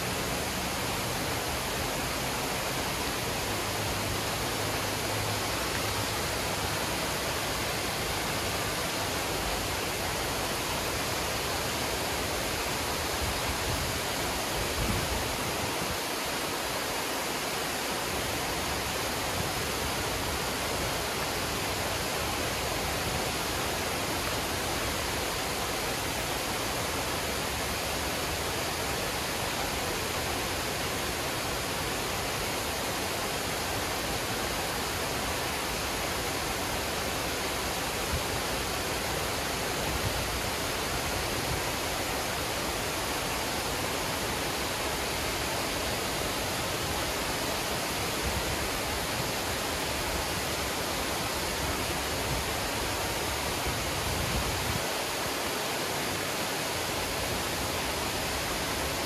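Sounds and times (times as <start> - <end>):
water rushing over a spillway: 0.0 - 59.0.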